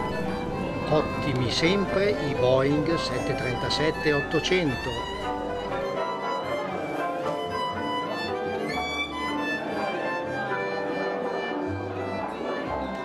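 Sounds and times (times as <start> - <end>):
violin melody with accompaniment: 0.0 - 13.0.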